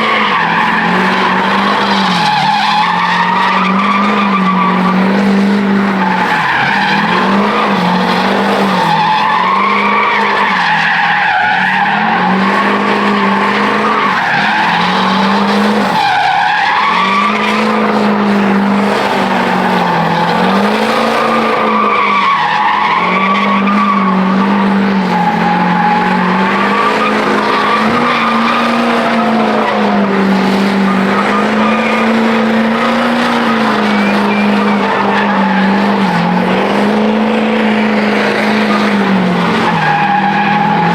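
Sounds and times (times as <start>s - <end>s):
spinning tires: 0.0s - 40.9s
truck engine revving: 0.0s - 40.9s.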